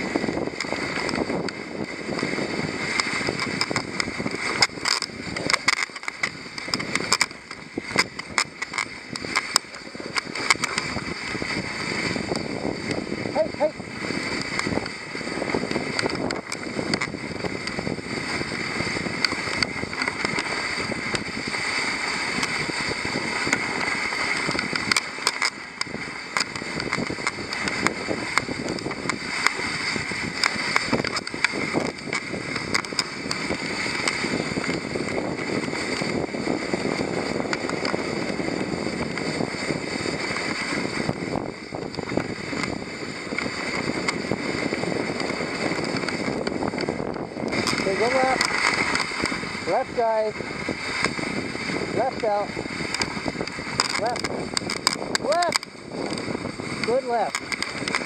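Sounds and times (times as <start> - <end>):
sled runners hissing on snow: 0.0 - 57.9
wind buffeting microphone: 0.0 - 58.0.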